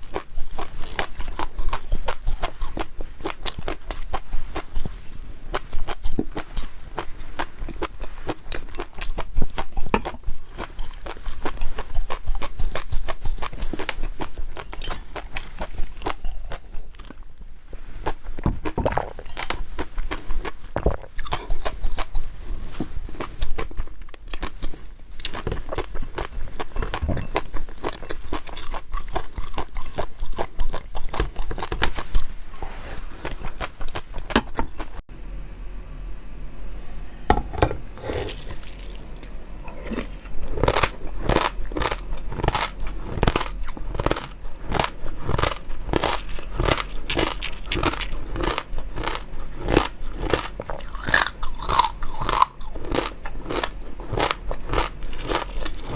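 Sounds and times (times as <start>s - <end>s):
chewing and crunching food: 0.0s - 35.0s, 38.0s - 55.9s.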